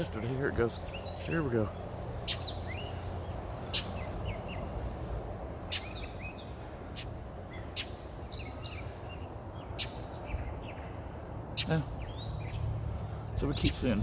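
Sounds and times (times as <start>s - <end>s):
bird alarm calls: 0.0s - 4.7s, 5.4s - 14.0s
bird chirps: 0.0s - 4.8s, 5.4s - 14.0s.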